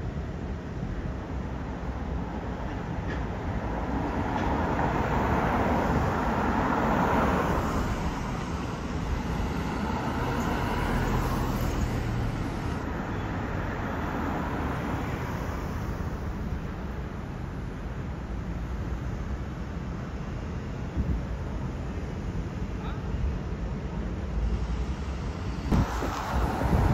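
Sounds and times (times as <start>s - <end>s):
vehicles passing: 0.2s - 26.9s.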